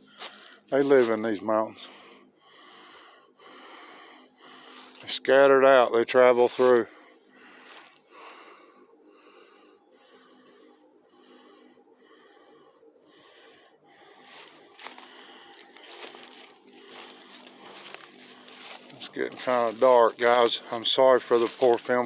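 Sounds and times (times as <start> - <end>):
person breathing heavily: 0.0 - 0.8, 1.7 - 5.1, 6.6 - 22.0.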